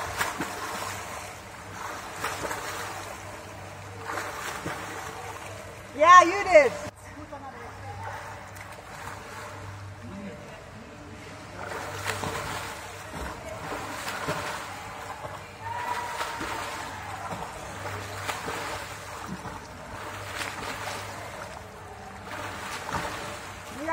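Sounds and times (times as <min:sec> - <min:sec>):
swimmer splashing: 0:00.0 - 0:23.9.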